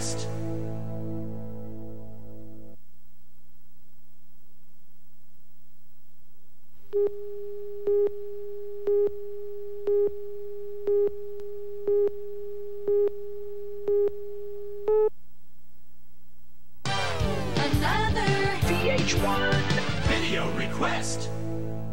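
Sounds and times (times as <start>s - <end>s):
low electrical hum: 0.0s - 18.2s.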